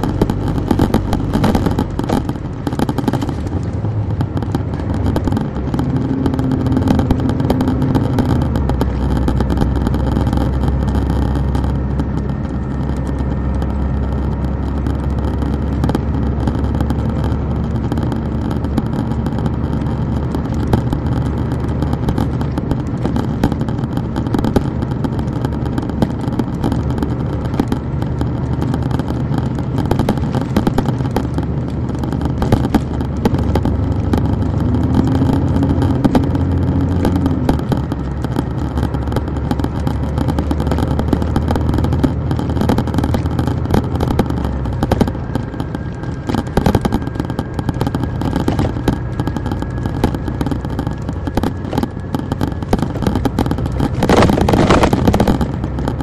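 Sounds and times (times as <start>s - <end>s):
diesel bus engine running: 0.0s - 56.0s.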